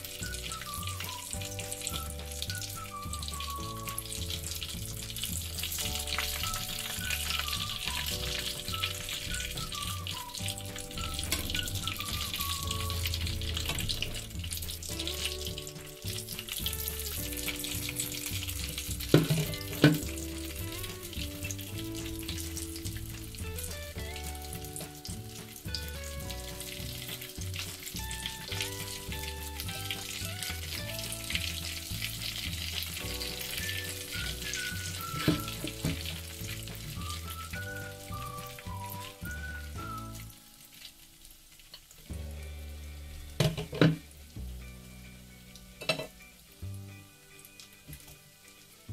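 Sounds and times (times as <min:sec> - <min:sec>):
background music: 0:00.0 - 0:41.2, 0:42.1 - 0:48.9
food deep-frying in oil: 0:00.0 - 0:48.9.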